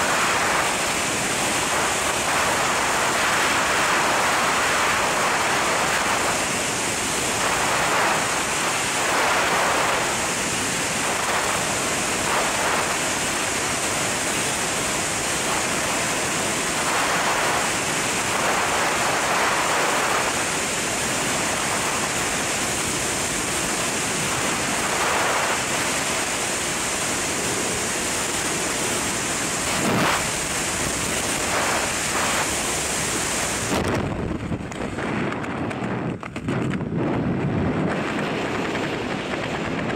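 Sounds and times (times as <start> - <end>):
wind blasting across microphone: 0.0 - 39.9.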